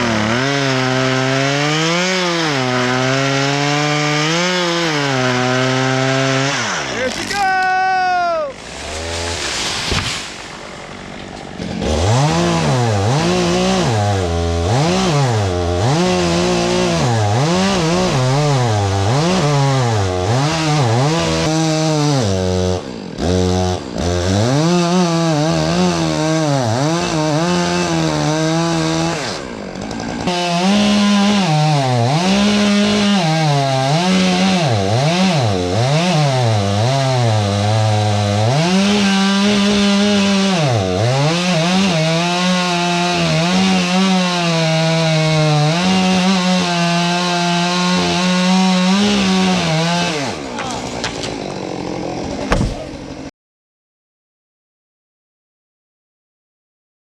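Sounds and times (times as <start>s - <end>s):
chainsaw cutting wood: 0.0s - 53.3s.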